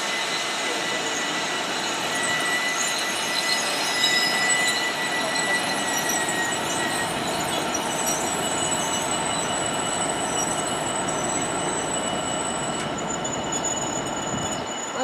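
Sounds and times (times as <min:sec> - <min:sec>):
high wheel squeal: 0:00.0 - 0:15.0
train rolling on track: 0:00.0 - 0:15.0.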